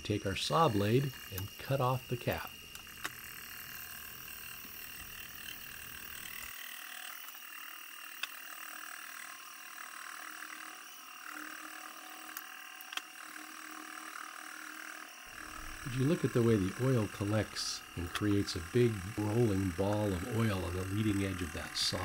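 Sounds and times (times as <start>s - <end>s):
milling saw blade cutting metal: 0.0s - 22.0s.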